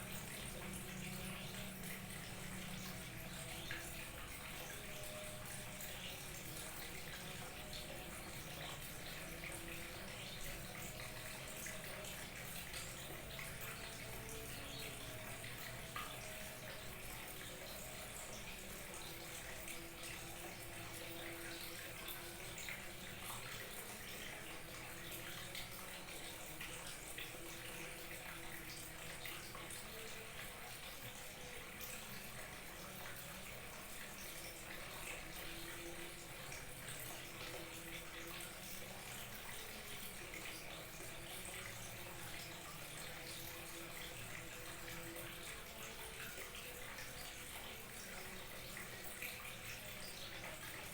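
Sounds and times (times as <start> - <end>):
small waterfall trickling: 0.0 - 50.9.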